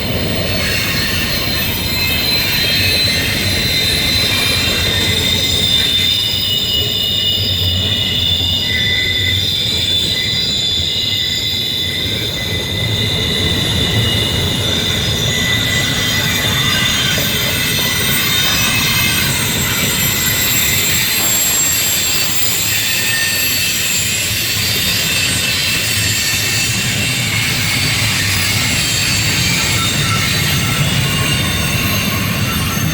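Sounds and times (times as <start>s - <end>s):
freight train cars rolling: 0.0s - 32.9s
wheels squealing on rails: 0.0s - 32.9s.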